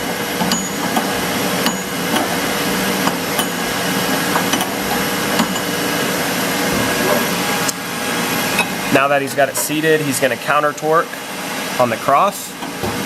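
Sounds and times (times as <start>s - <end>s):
loud background noise: 0.0s - 13.0s.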